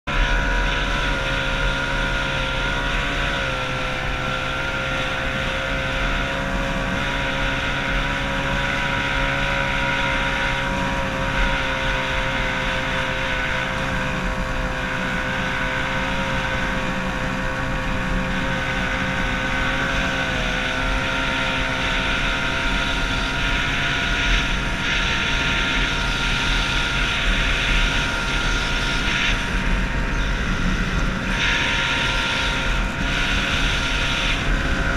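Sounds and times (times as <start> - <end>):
outboard motor running: 0.0 - 34.9
wind noise: 0.1 - 34.9.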